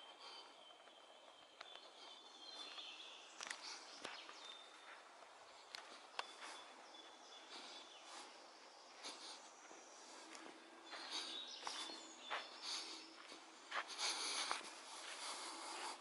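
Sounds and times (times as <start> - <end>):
distant bird calls: 0.0 - 16.0.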